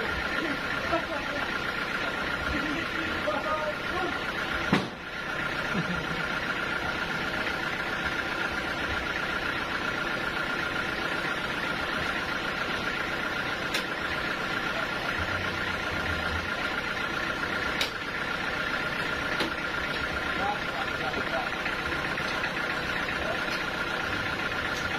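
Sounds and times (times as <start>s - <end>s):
sawmill machinery whining: 0.0s - 24.9s.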